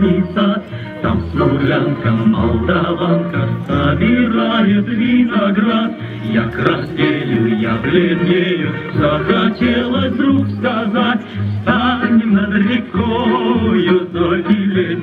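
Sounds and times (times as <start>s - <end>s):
song with singing voice: 0.0s - 15.0s.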